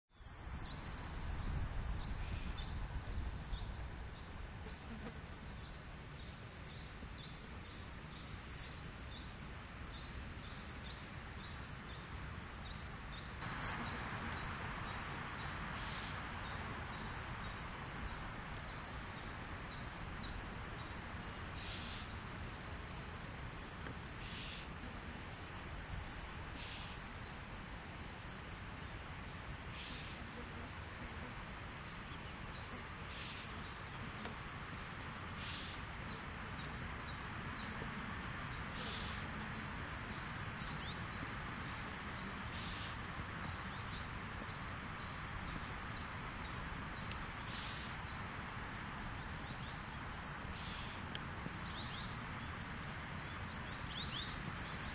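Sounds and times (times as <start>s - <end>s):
steady hiss: 0.4s - 54.9s.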